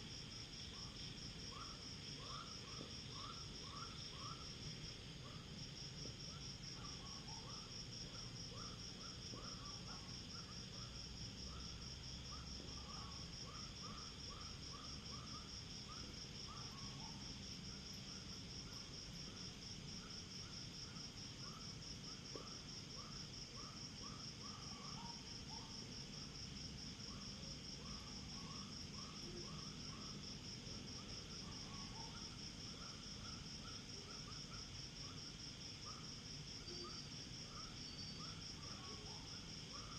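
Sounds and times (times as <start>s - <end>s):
cricket chirps: 0.0s - 39.9s
insects trilling: 0.0s - 39.9s.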